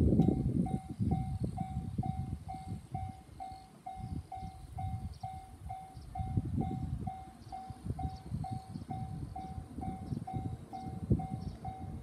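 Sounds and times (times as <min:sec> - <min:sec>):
low gusting rumble: 0:00.0 - 0:12.0
level-crossing warning bell: 0:00.2 - 0:12.0.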